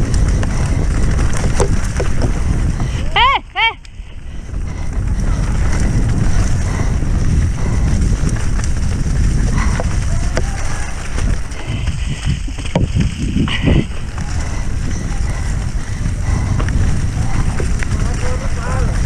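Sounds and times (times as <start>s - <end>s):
bike clattering over rough trail: 0.0s - 19.0s
wind buffeting microphone: 0.0s - 19.0s.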